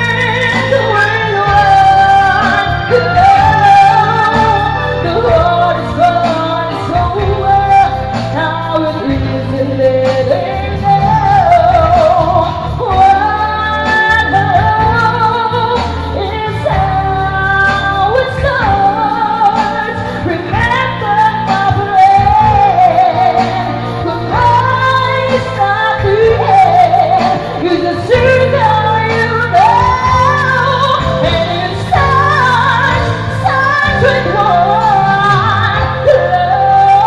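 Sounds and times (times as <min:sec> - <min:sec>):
bass line: 0:00.0 - 0:37.0
drums: 0:00.0 - 0:37.0
woman singing pop song: 0:00.0 - 0:37.0.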